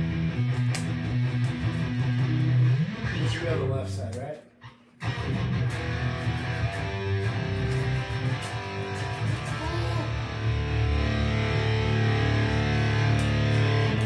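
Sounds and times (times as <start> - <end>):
amplified electric guitar: 0.0 - 3.7, 4.6 - 14.0
low bass notes: 0.0 - 4.1, 5.0 - 14.0.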